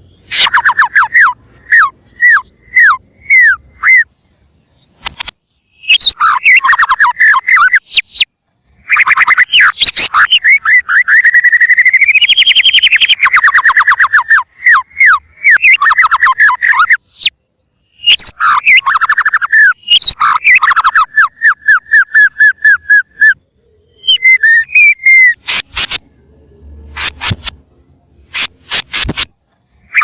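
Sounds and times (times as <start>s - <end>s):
songbird singing trills and whistles: 0.0s - 30.0s.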